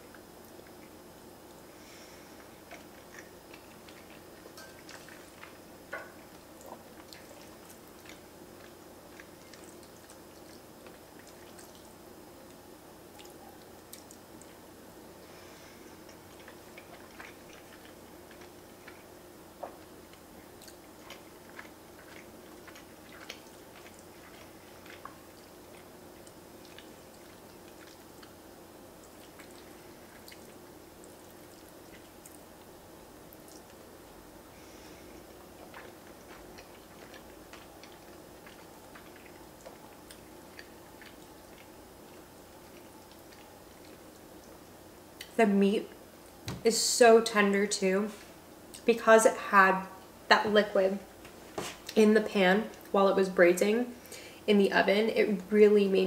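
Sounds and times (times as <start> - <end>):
chewing pasta: 0.0 - 46.4
faint room hum: 0.0 - 56.0.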